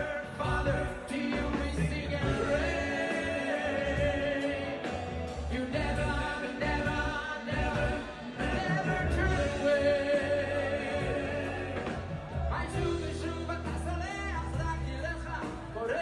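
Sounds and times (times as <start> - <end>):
live band with bass beat: 0.0 - 16.0
man singing into a microphone: 0.0 - 16.0.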